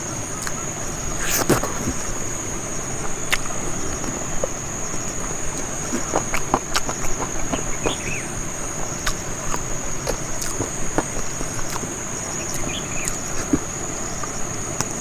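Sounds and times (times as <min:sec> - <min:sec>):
high-pitched insect drone: 0:00.0 - 0:15.0
mouth chewing and sucking: 0:00.3 - 0:15.0.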